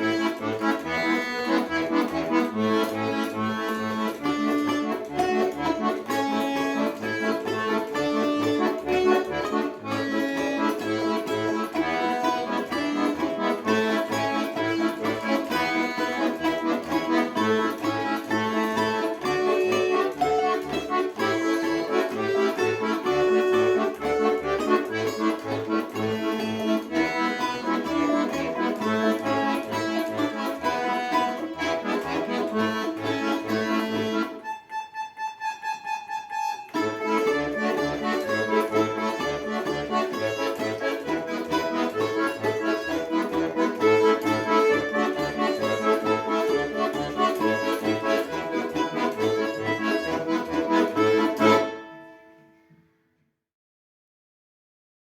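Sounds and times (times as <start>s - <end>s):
accordion bass and chords: 0.0s - 52.9s
accordion melody: 0.0s - 52.9s.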